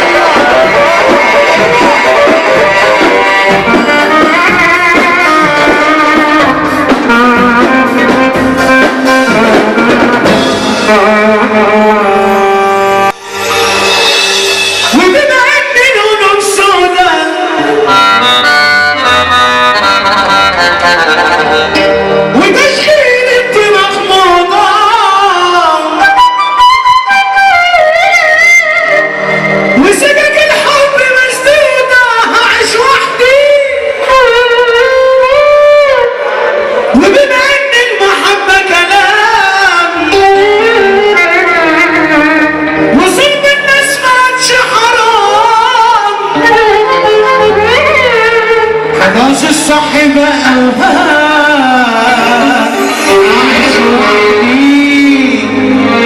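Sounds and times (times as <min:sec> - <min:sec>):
keyboard playing accordion-like melody: 0:00.0 - 0:15.2, 0:17.2 - 0:30.7, 0:38.0 - 0:56.0.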